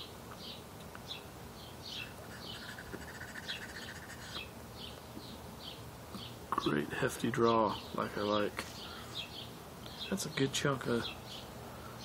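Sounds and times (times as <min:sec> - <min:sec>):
buzzy bird trill: 0:00.0 - 0:11.5
bird chirping: 0:00.0 - 0:12.0.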